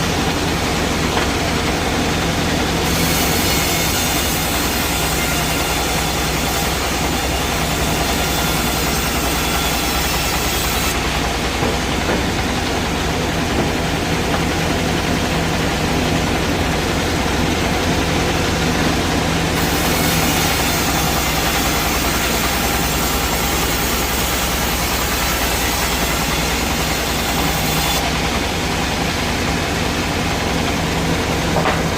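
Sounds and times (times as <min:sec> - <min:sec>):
sawmill machinery running: 0:00.0 - 0:31.9.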